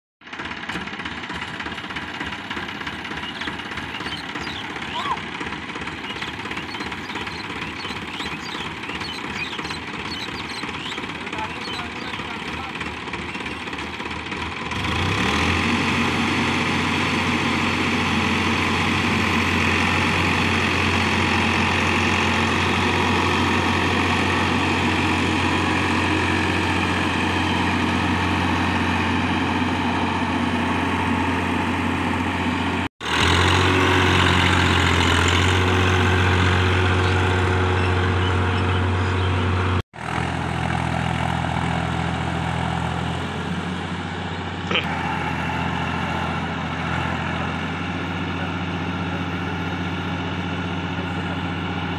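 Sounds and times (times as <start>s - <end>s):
diesel tractor engines droning: 0.2s - 51.9s.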